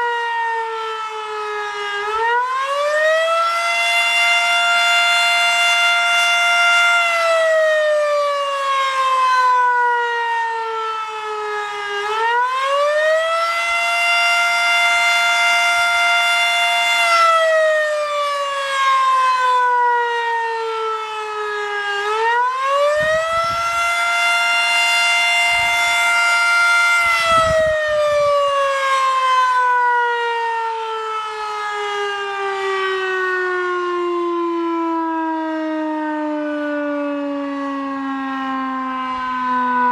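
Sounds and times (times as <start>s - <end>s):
mechanical fire siren wailing: 0.0s - 39.9s.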